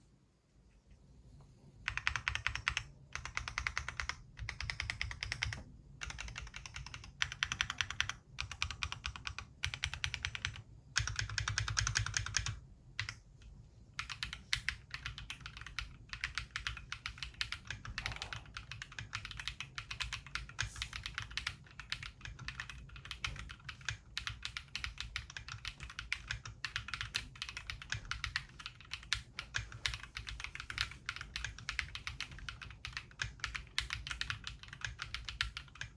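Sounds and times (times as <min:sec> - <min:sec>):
typing on mechanical keyboard: 0:01.9 - 0:13.2, 0:14.0 - 0:35.9.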